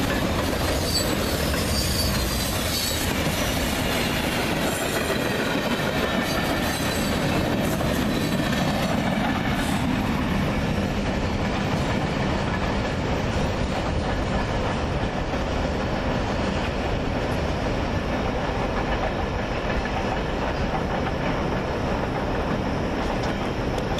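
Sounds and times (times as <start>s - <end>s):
freight train wheels rumbling: 0.0s - 23.9s.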